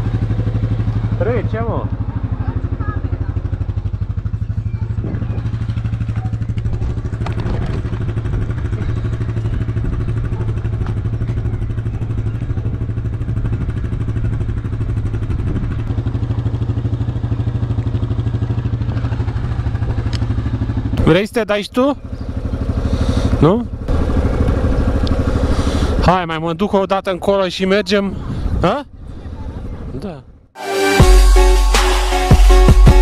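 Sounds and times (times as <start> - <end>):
atv engine idling: 0.0 - 30.2.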